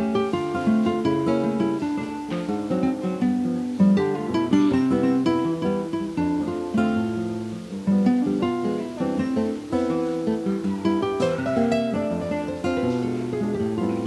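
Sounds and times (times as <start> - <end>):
acoustic guitar plucking: 0.0 - 14.0.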